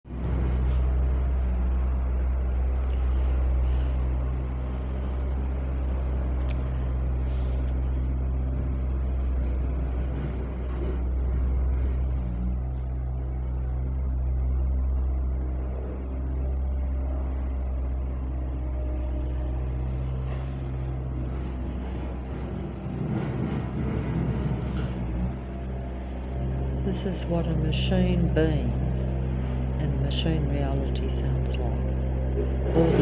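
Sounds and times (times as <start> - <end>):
large engine droning: 0.0 - 33.0.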